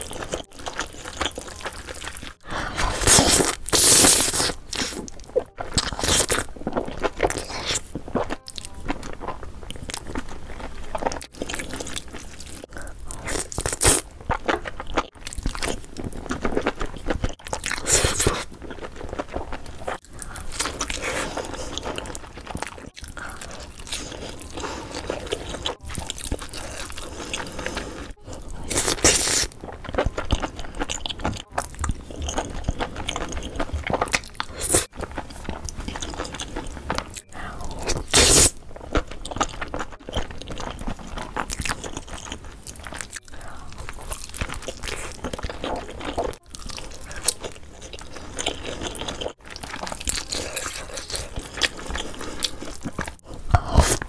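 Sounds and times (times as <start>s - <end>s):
woman chewing noodles: 0.0s - 54.0s.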